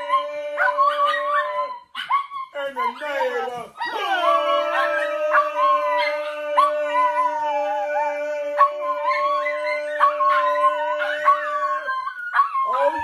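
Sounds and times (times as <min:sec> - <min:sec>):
small dog howling: 0:00.0 - 0:13.0.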